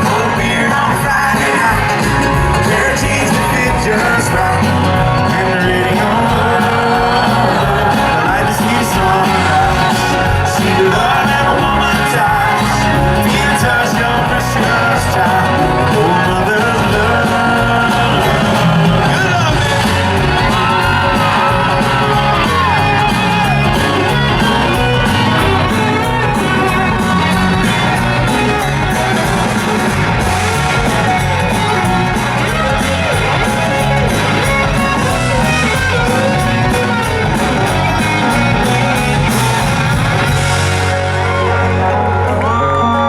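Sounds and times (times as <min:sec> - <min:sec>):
bending lead melody: 0:00.0 - 0:43.0
live country band playing: 0:00.0 - 0:43.0.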